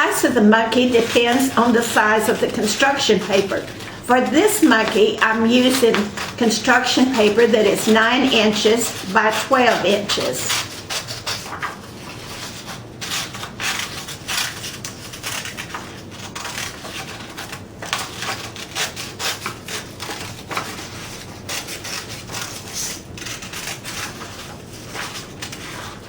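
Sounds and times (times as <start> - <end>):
scratchy rubbing on paper: 0.1 - 26.0.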